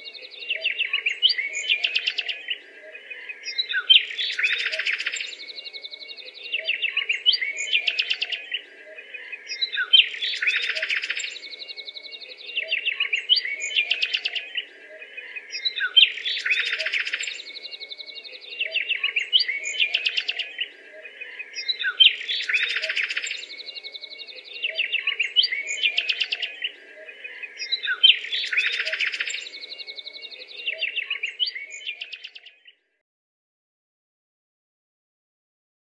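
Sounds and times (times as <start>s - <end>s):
birdsong chirps and trills: 0.0s - 32.8s.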